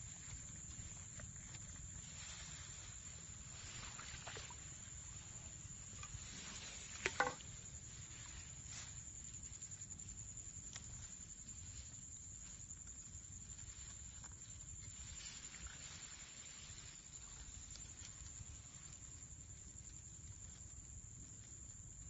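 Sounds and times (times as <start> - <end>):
rustling of net and grass: 0.0 - 22.0.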